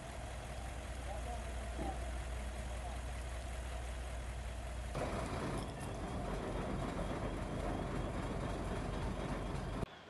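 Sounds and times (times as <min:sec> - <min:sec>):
fire engine rumbling: 0:00.0 - 0:10.0.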